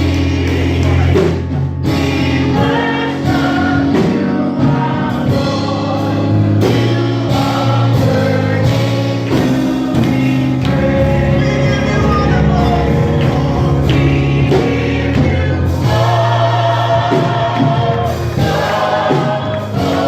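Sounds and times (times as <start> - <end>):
choir singing gospel: 0.0 - 20.0
instrumental accompaniment: 0.0 - 20.0.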